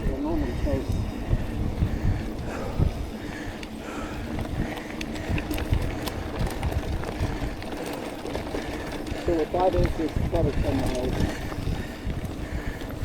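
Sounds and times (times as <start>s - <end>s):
bike clicks and rattles: 0.0s - 13.0s
bike tyres rumbling on dirt: 0.0s - 13.0s.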